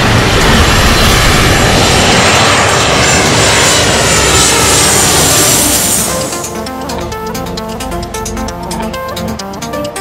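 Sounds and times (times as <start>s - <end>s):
jet airliner engines: 0.0s - 10.0s.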